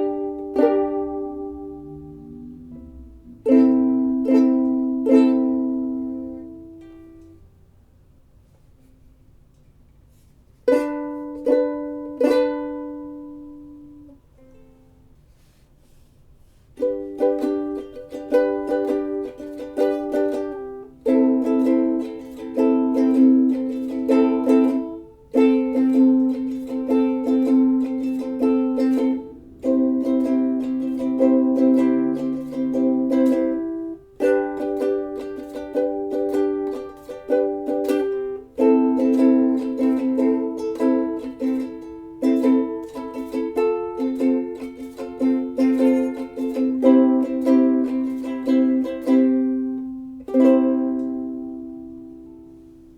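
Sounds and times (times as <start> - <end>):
ukulele melody: 0.0 - 8.0, 8.6 - 52.9.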